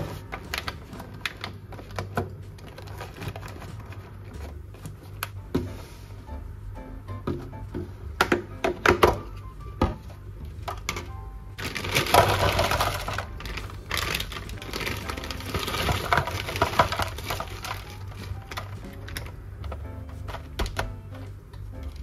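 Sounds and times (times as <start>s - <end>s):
objects clicking and knocking: 0.0s - 5.6s, 8.2s - 22.0s.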